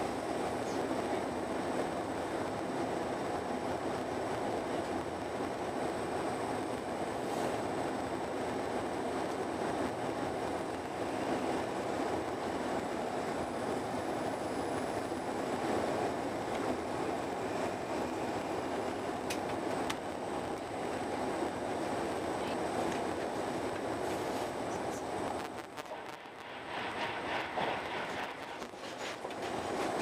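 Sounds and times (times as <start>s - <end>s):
train running at speed: 0.0s - 30.0s.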